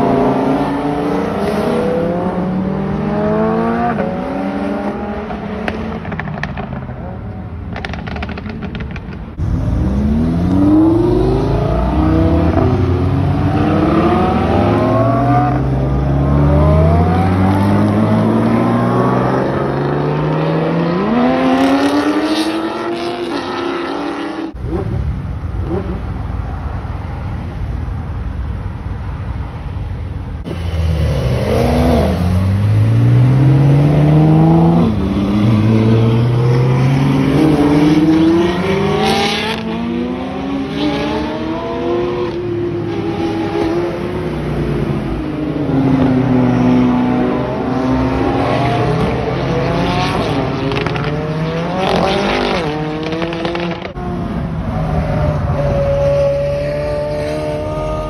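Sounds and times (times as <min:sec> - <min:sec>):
car engines accelerating hard: 0:00.0 - 0:26.2, 0:30.4 - 0:58.0.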